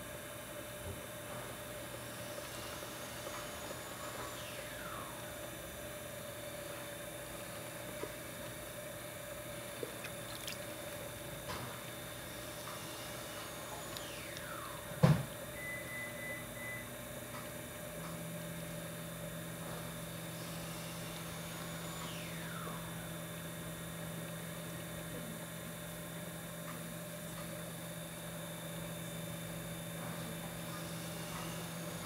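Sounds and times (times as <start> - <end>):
electric motor humming: 0.0 - 32.0.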